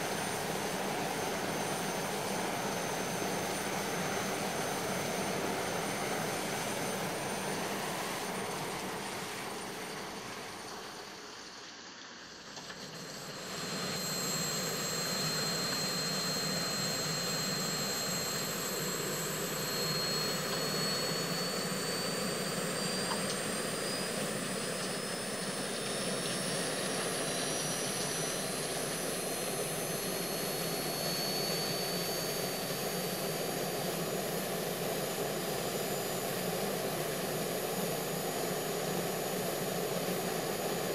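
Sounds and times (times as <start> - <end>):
high rising whine: 0.0 - 11.2, 12.8 - 40.9
jet engine roar: 0.0 - 11.2, 12.8 - 35.8.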